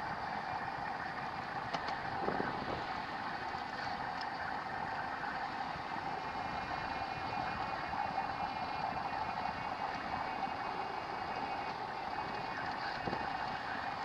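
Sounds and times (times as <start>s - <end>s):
atv engine running: 0.0s - 14.0s
winch whine: 0.0s - 14.0s.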